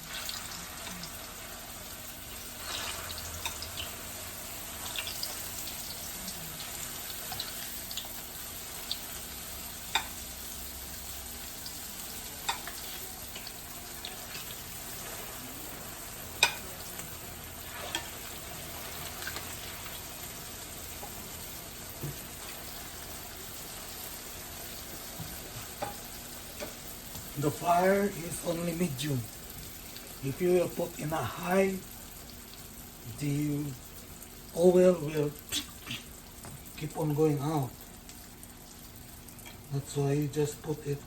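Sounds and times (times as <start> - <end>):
frying oil sizzling: 0.0 - 41.0.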